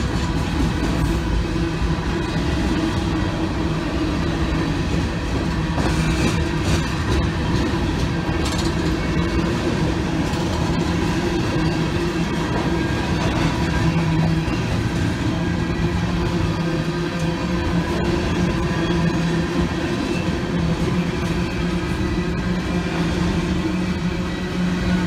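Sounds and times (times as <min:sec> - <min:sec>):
train wheels rolling on rail: 0:00.0 - 0:25.0.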